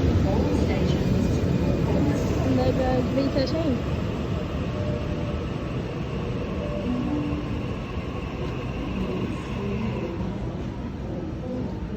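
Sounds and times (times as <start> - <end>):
train rumbling past: 0.0 - 11.6.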